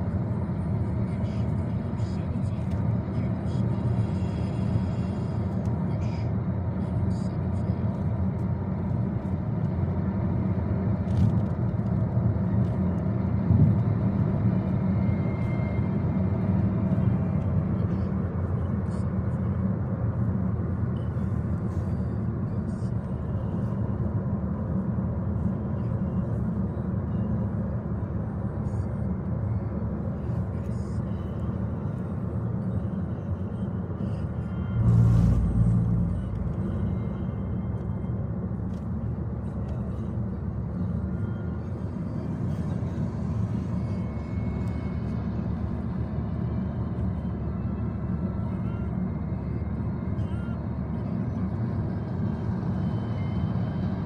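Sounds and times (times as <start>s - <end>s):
road and engine noise in car: 0.0s - 54.0s.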